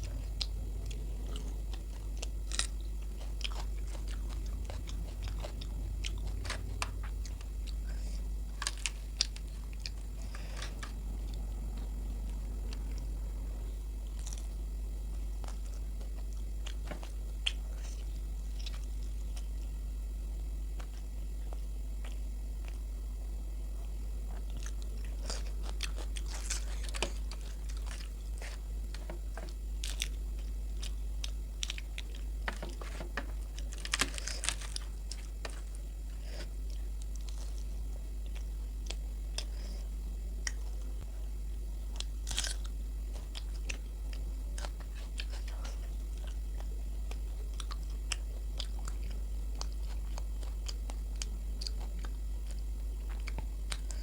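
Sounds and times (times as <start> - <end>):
chewing and biting food: 0.0 - 19.8, 23.7 - 54.0
steady low hum: 0.0 - 54.0.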